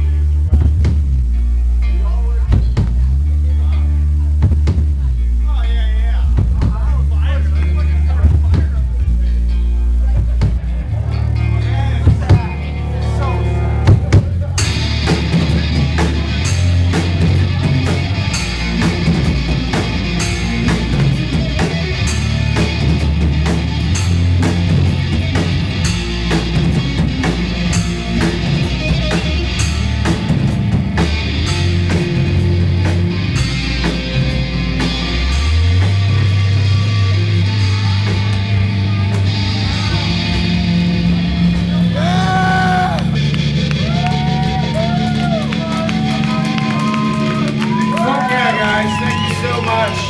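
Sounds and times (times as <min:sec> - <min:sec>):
low bass line: 0:00.0 - 0:50.0
rock music: 0:00.0 - 0:50.0
drum kit: 0:00.4 - 0:03.4, 0:04.3 - 0:05.5, 0:06.2 - 0:07.2, 0:07.9 - 0:50.0.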